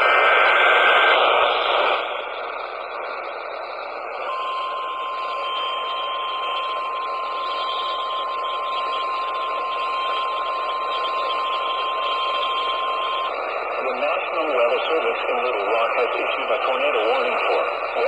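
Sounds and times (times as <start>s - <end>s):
steady alarm tone: 0.0s - 15.8s
radio static hiss: 0.0s - 18.0s.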